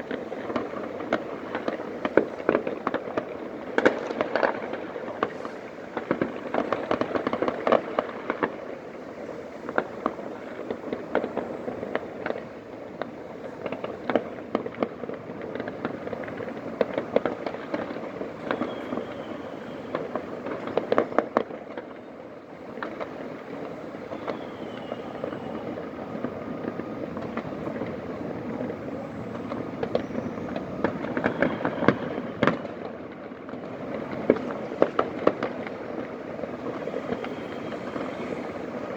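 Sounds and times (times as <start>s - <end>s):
firecrackers crackling: 0.0s - 38.9s
firework bangs: 0.0s - 38.9s.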